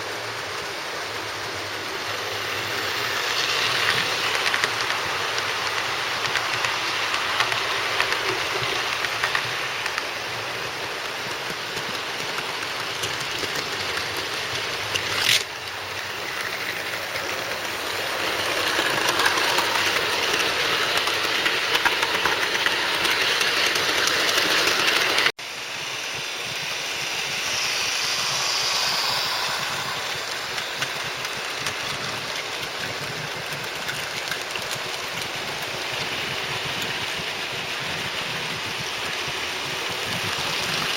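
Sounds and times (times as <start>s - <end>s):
model train wheels rattling: 0.6s - 25.3s, 26.4s - 40.9s.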